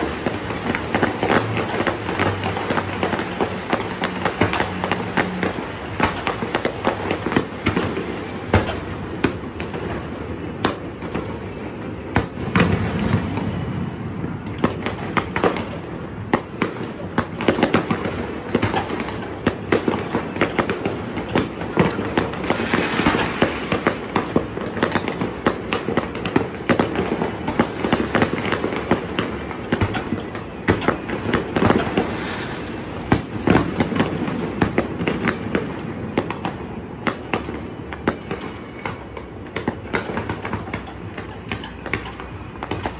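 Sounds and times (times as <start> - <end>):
continuous rumble: 0.0 - 42.9
fireworks bangs and crackling pops: 0.0 - 42.9.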